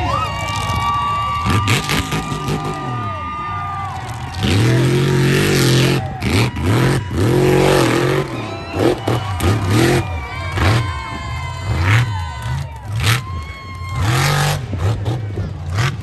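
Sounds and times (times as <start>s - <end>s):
truck engine revving: 0.4s - 16.0s.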